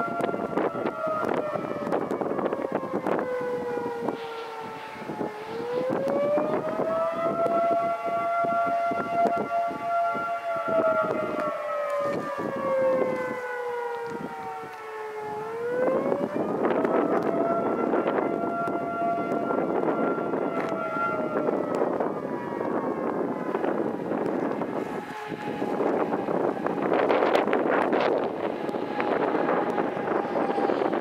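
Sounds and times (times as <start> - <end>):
dual-tone warning siren: 0.0 - 31.0
wind buffeting microphone: 0.0 - 31.0.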